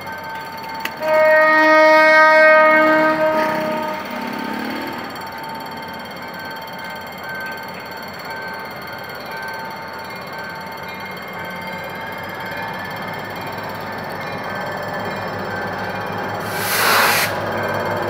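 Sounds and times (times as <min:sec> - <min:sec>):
diesel locomotive engine: 0:00.0 - 0:18.0.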